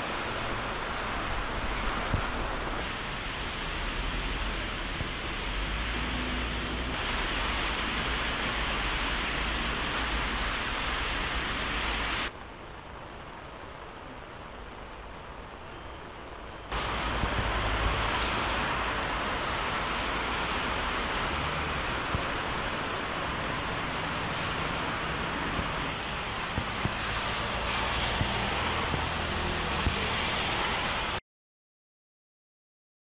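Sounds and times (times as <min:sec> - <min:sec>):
tyres hissing through water: 0:00.0 - 0:12.3, 0:16.7 - 0:31.2
heavy rain pouring on road: 0:00.0 - 0:31.2
low traffic rumble: 0:00.0 - 0:31.2.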